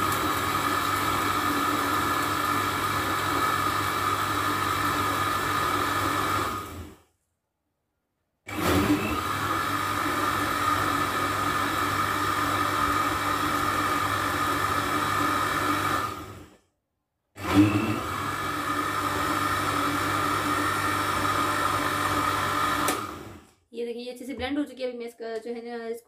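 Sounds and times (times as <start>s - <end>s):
blender motor humming: 0.0s - 7.0s, 8.5s - 16.6s, 17.4s - 23.5s.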